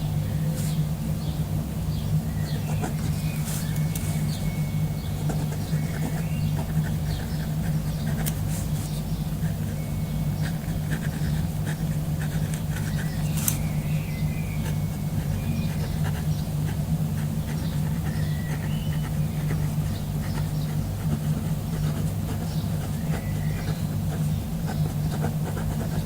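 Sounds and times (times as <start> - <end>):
birds chirping: 0.0 - 26.0
steady low hum: 0.0 - 26.0.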